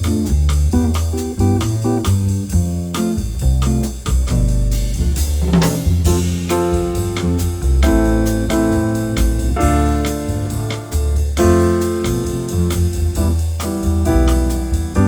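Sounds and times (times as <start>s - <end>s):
piano chords over bass and beat: 0.0s - 15.0s.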